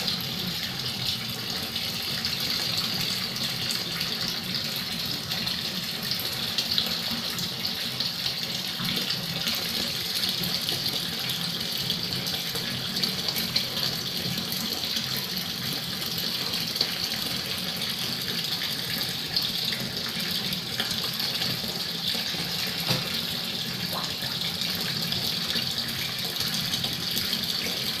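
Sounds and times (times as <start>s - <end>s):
water stream splashing into pond: 0.0s - 28.0s.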